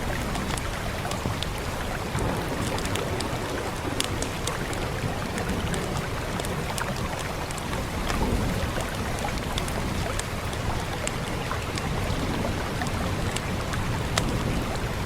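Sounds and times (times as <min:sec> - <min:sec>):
wood fire crackling: 0:00.0 - 0:14.6
steady rain hiss: 0:00.0 - 0:15.0.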